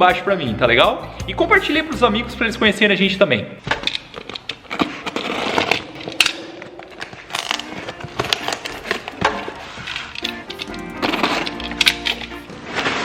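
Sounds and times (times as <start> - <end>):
light background music: 0.0 - 4.0, 6.2 - 13.0.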